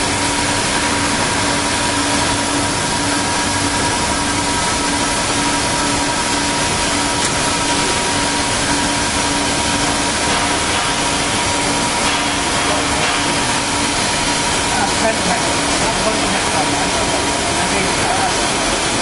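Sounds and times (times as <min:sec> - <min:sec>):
pulsing low hum: 0:00.0 - 0:19.0.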